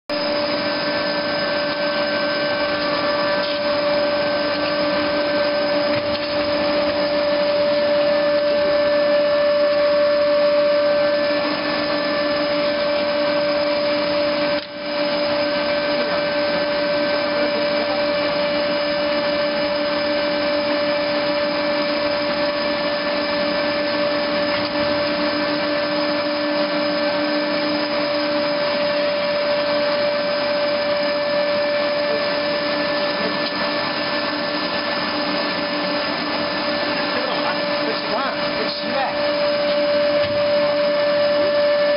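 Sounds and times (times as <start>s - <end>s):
constant machine hum: 0.1s - 41.9s
machinery whine and hiss: 0.1s - 41.9s.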